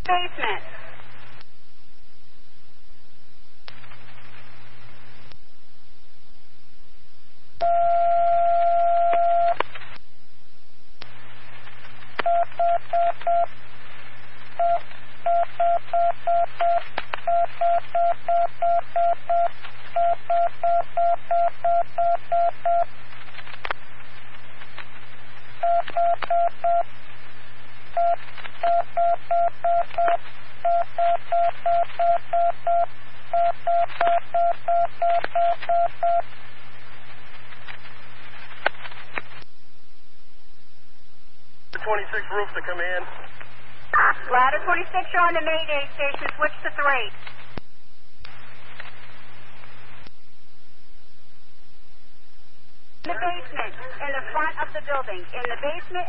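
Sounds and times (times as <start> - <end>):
radio hiss and hum: 0.0 - 7.7, 8.4 - 10.2, 10.9 - 56.0.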